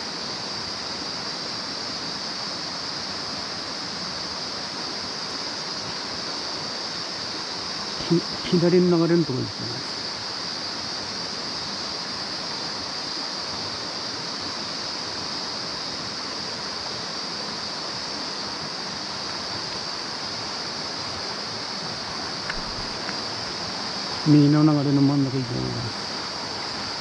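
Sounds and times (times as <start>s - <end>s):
mountain stream running: 0.0s - 27.0s.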